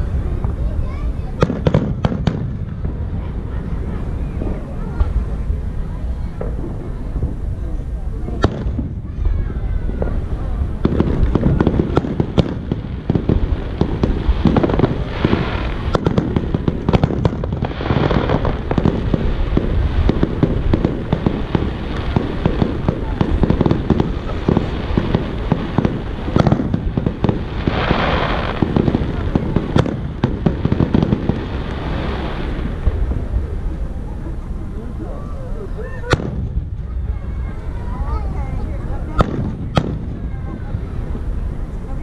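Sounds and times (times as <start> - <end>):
fireworks bangs and cracks: 0.0 - 35.1, 35.7 - 41.7
fireworks crackling: 0.0 - 42.0.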